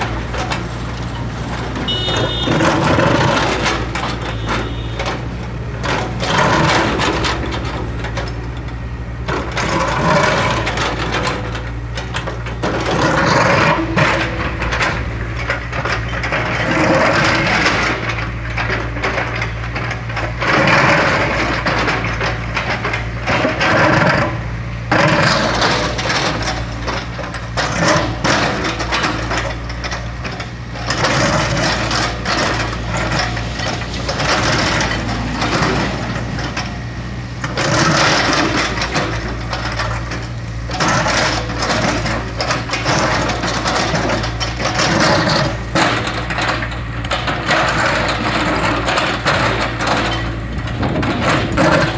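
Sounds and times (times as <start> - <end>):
bucket scraping and cracking concrete: 0.0 - 8.4, 9.3 - 51.9
excavator diesel engine running: 0.0 - 51.9.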